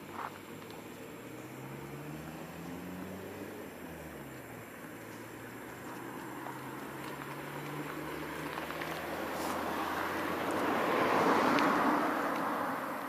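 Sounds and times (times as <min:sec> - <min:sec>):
vehicle passing by: 0:00.2 - 0:13.0.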